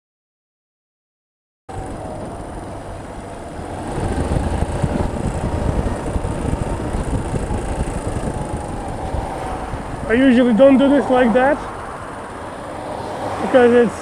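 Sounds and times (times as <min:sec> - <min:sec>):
motorcycle engine rumbling: 0:01.7 - 0:13.9
wind noise: 0:01.7 - 0:14.0.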